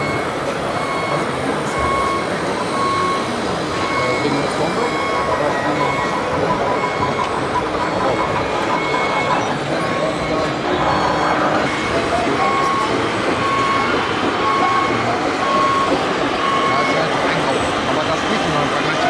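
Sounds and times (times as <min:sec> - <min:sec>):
reversing beeper beeping: 0:00.0 - 0:19.0
steady mechanical din: 0:01.7 - 0:19.0.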